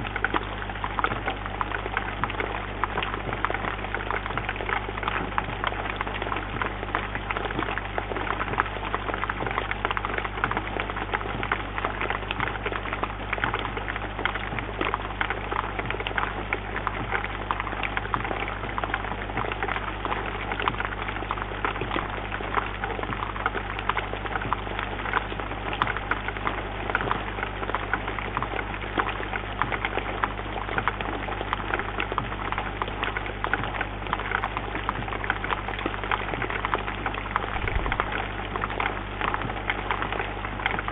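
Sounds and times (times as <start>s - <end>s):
low hum: 0.0s - 40.9s
rain pattering on bird feeder: 0.0s - 40.9s.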